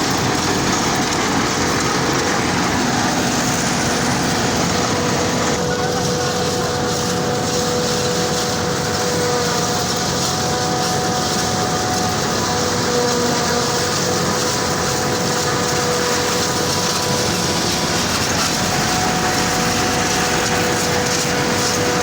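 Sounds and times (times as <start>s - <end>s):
combine harvester running: 0.0s - 22.0s
steady mechanical whine: 0.0s - 22.0s.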